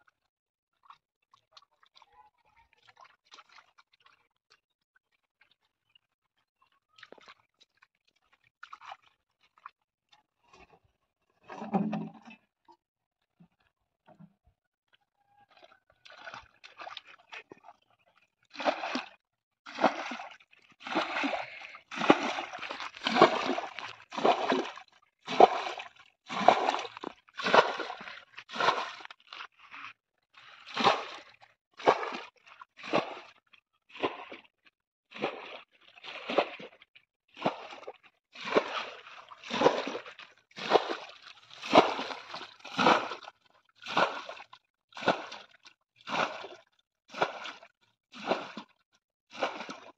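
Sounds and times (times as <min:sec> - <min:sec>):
muddy water splashing and sloshing: 0:00.1 - 0:49.9.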